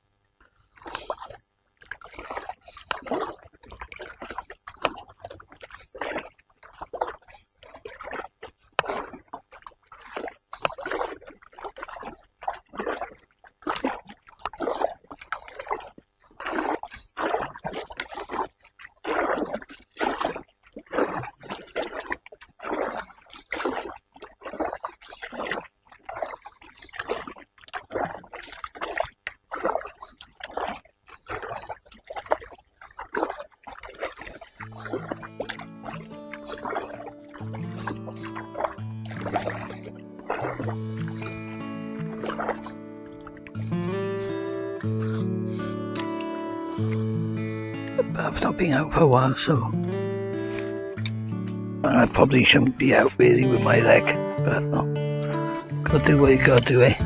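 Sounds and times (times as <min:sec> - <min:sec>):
kayak paddle splashing water: 0:00.0 - 0:57.0.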